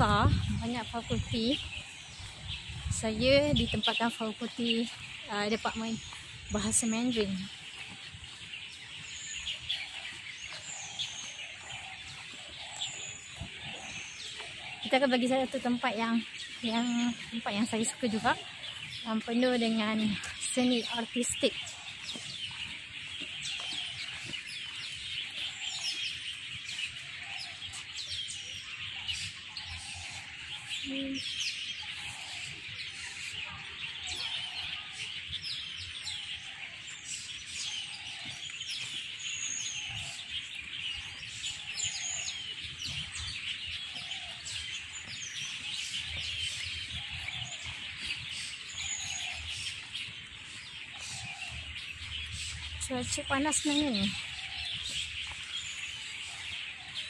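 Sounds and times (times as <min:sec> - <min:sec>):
small birds chattering: 0:00.0 - 0:57.0.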